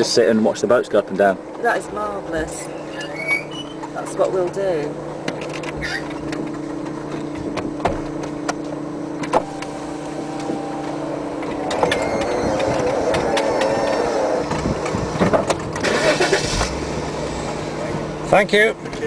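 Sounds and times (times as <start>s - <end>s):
car engine humming: 0.0s - 19.0s
wavering high engine note: 1.4s - 18.9s.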